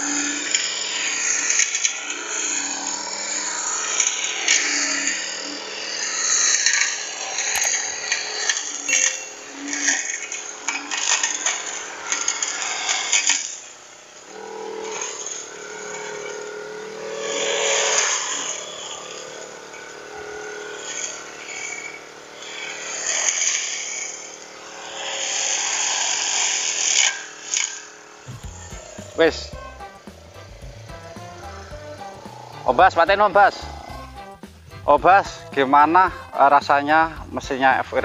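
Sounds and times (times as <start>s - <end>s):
brush cutter cutting grass: 0.0s - 38.0s.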